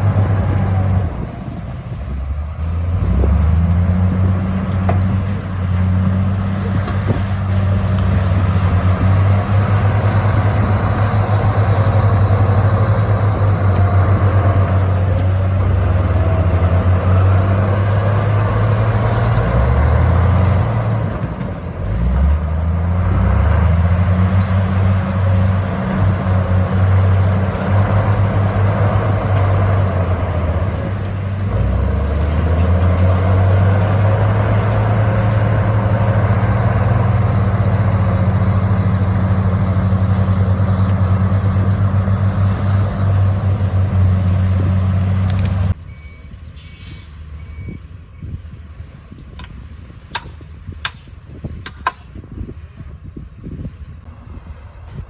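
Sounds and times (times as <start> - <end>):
diesel machinery droning: 0.0 - 50.6.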